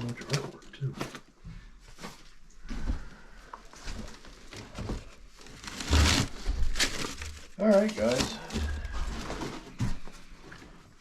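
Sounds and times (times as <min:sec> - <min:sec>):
objects rustling and knocking: 0:00.0 - 0:11.0.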